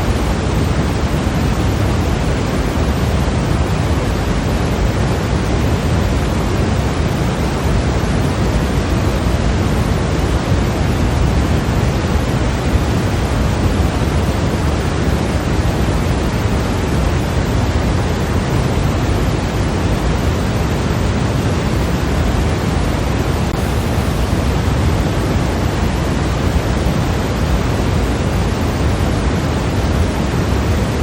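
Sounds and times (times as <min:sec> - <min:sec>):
white noise hiss: 0:00.0 - 0:31.0.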